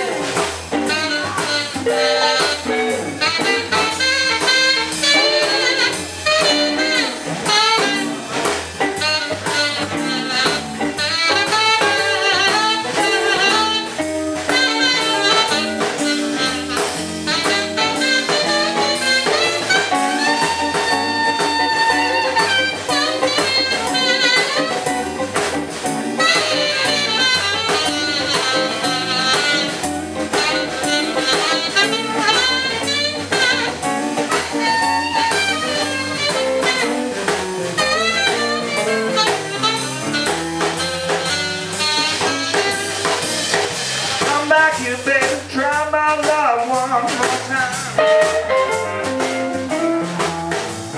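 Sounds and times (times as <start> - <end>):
saxophone: 0.0 - 44.7, 47.2 - 50.9
drums: 0.0 - 50.9
electric bass: 0.0 - 50.9
electric guitar: 0.0 - 50.9.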